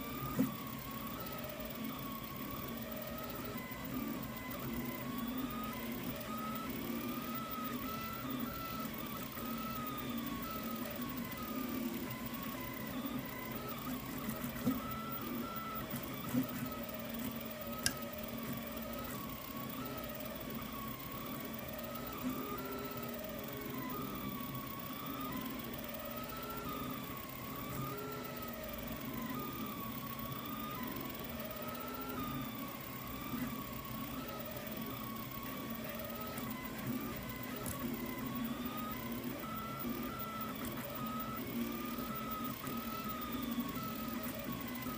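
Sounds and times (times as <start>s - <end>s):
steady hum: 0.0s - 44.9s
stepper motors whining: 0.0s - 44.9s.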